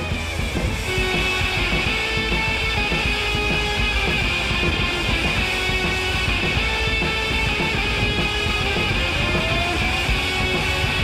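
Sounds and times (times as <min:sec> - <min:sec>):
rock music with guitar: 0:00.0 - 0:11.0.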